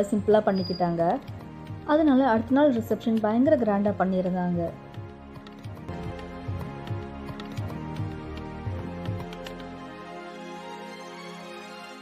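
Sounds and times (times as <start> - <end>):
background music with soft beat: 0.0 - 12.0.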